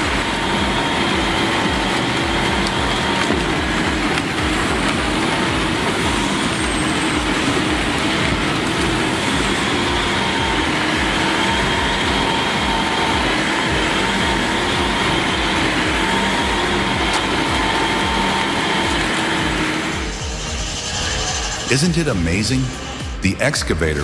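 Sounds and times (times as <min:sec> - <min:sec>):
heavy machinery engine drone: 0:00.0 - 0:24.0.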